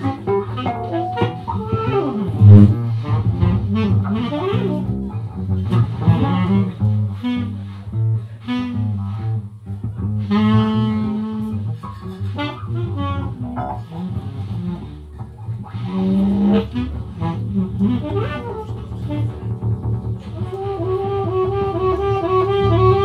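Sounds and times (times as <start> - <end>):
saxophone playing: 0.0 - 9.4, 10.2 - 15.1, 15.7 - 23.0
electric bass guitar: 0.0 - 23.0.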